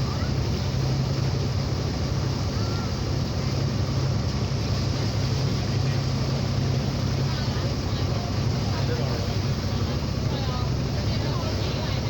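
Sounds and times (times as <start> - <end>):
boat engine droning: 0.0 - 12.0
rush of wind and water: 0.0 - 12.0.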